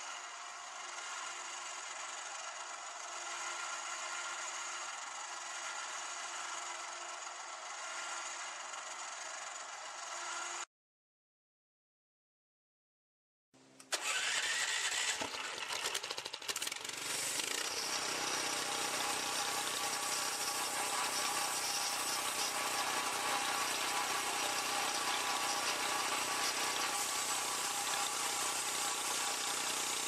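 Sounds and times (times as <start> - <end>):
small gasoline engine starting: 0.0 - 10.7, 13.8 - 30.0.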